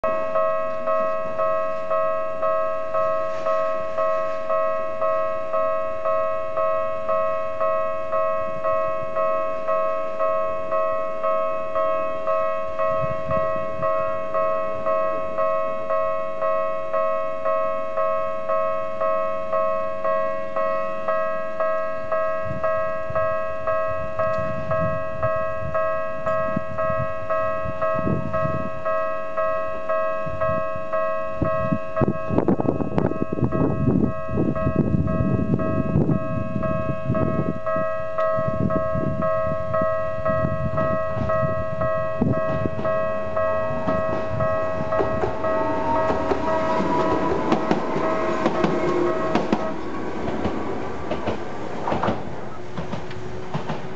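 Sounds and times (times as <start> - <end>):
level crossing alarm bell: 0.0 - 51.7
low train rumble: 0.0 - 53.9.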